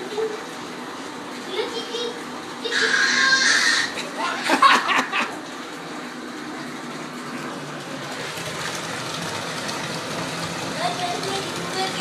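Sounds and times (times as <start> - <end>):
water running into a bathtub: 0.0 - 12.0.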